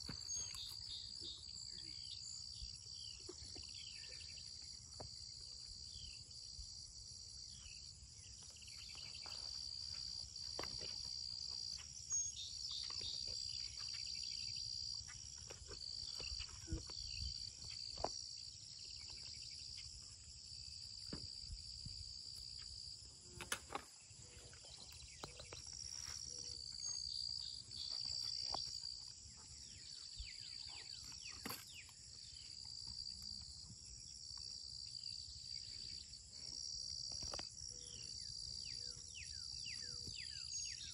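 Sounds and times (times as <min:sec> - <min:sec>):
insects chirping in trills: 0:00.0 - 0:40.9.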